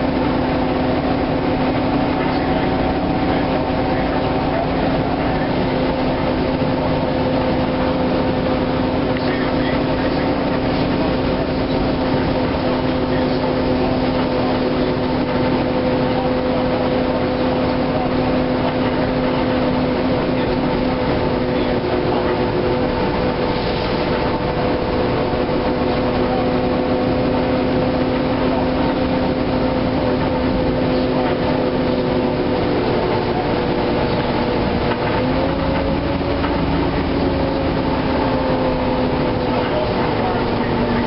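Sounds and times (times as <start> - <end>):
bus engine drone: 0.0 - 41.0
road noise: 0.0 - 41.0.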